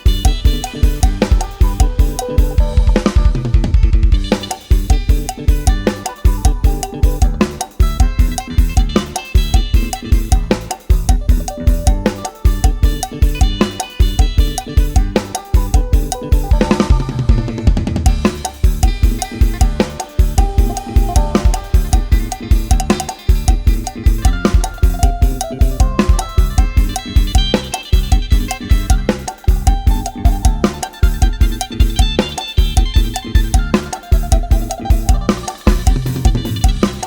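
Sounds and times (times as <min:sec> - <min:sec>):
drum kit beat: 0:00.0 - 0:37.0
drum roll: 0:00.0 - 0:37.0
lute melody: 0:00.0 - 0:37.0.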